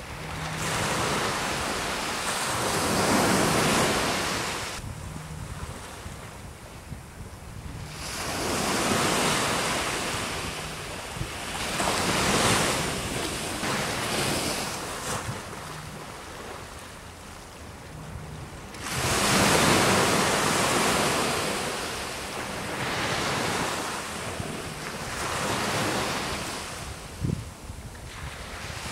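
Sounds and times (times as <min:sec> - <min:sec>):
surf washing onto shore: 0:00.0 - 0:04.8, 0:07.8 - 0:28.9
wind buffeting microphone: 0:00.0 - 0:28.9.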